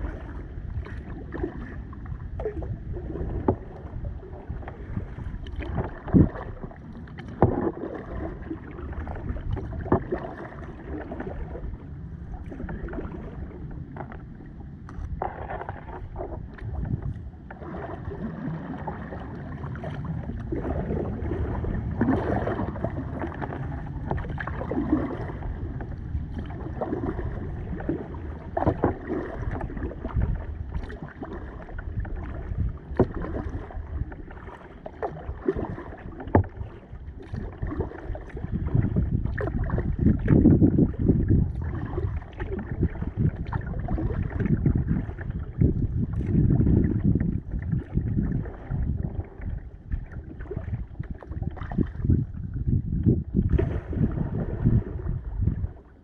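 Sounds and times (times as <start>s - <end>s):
paddle strokes splashing: 0.0s - 56.0s.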